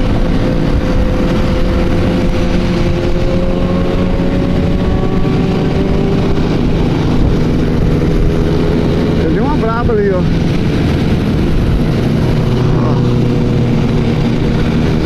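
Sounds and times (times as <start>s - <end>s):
low rushing noise: 0.0s - 15.0s
motorcycle engine running: 0.0s - 15.0s.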